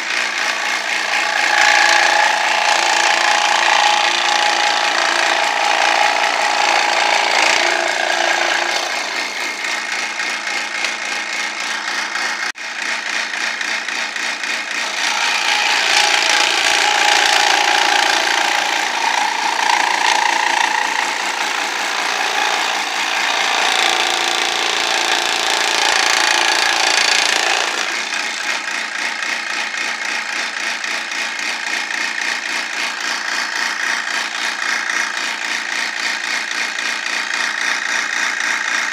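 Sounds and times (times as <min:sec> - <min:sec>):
scroll saw cutting plywood: 0:00.0 - 0:38.9.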